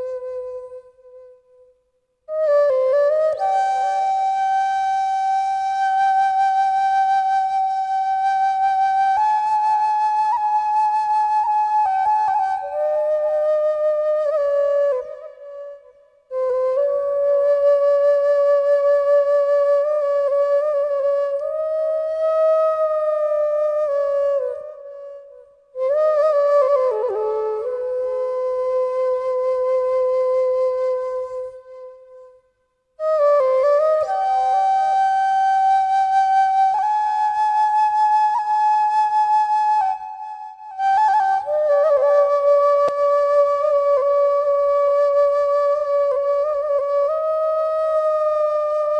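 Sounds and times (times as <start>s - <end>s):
slow flute-like melody: 0.0s - 48.9s.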